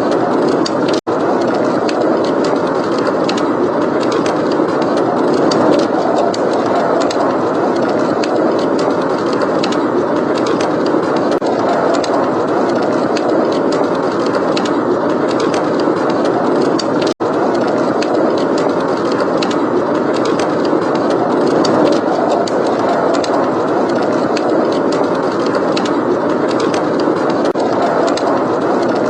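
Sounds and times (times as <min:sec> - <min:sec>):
heavy blizzard wind: 0:00.0 - 0:29.0.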